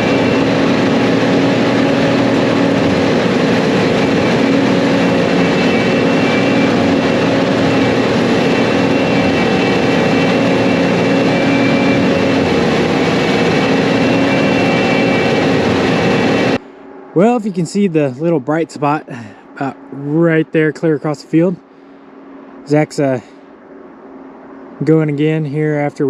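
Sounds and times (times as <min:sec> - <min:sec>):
deep engine drone: 0:00.0 - 0:26.0
faint high whine: 0:00.0 - 0:26.0.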